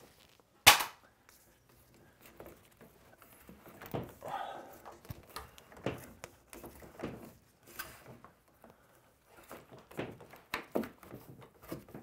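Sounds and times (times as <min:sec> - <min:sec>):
cable rustling: 0:00.0 - 0:12.0.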